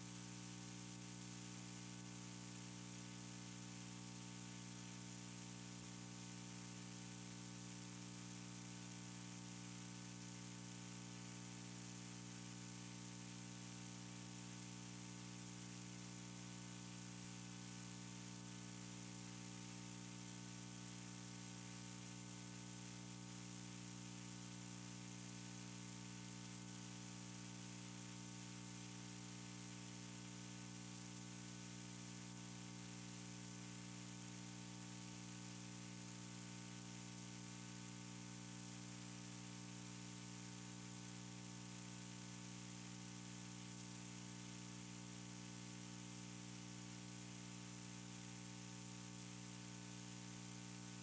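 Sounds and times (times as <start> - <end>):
constant hiss: 0.0 - 51.0
electrical mains hum: 0.0 - 51.0.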